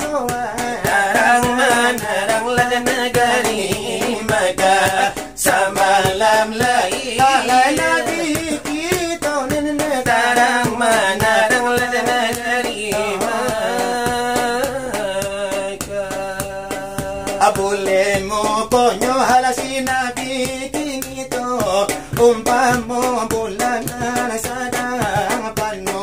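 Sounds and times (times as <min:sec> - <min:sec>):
fingers beating brass trays: 0:00.0 - 0:26.0
men singing devotional song: 0:00.0 - 0:26.0.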